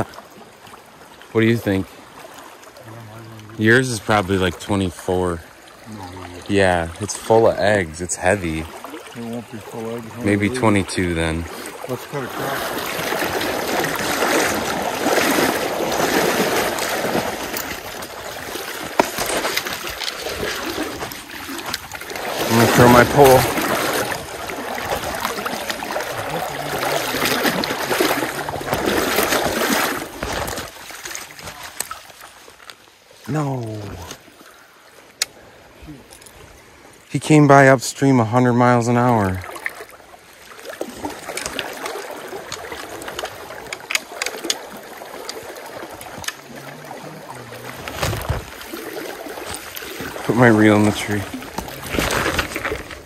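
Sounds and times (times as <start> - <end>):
water sloshing around wading legs: 0.0 - 37.1, 38.7 - 53.0
sharp clicks and splashes: 0.0 - 53.0.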